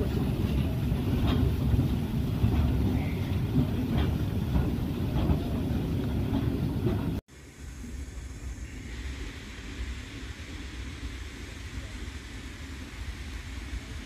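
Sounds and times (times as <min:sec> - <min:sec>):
quiet outdoor ambience: 0:00.0 - 0:14.0
steam locomotive rumbling: 0:00.0 - 0:14.0.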